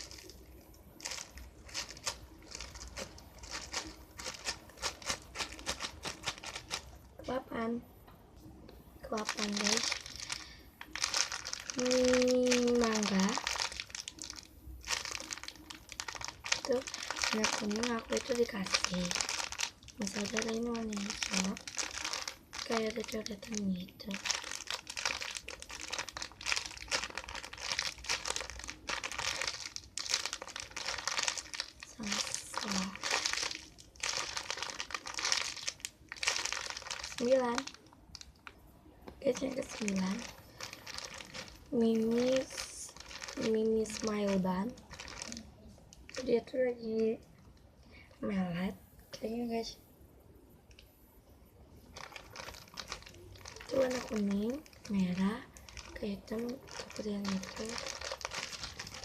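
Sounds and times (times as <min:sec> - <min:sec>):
plastic packaging crinkling: 0:00.0 - 0:07.0, 0:09.0 - 0:47.0, 0:51.8 - 0:59.0.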